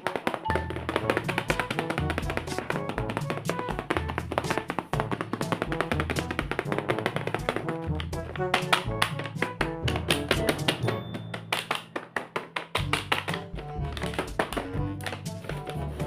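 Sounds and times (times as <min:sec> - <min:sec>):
music with busy beat and bass: 0:00.0 - 0:16.0.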